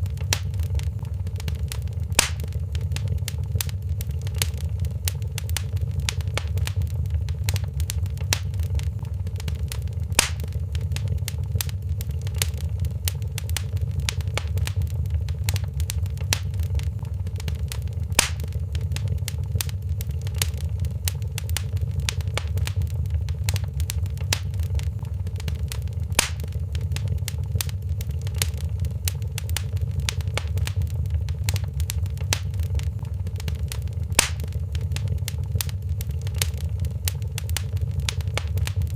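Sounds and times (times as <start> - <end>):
fire rumbling low: 0.0 - 38.9
wood fire crackling: 0.0 - 38.9
loud pop from fire: 1.6 - 9.0, 10.0 - 11.7, 12.3 - 25.0, 25.6 - 38.9.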